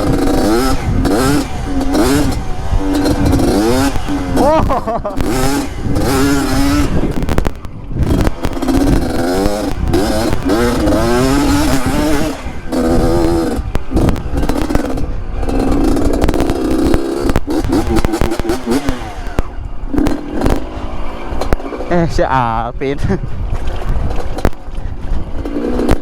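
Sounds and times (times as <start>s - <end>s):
two-stroke motorcycle revving: 0.0s - 26.0s.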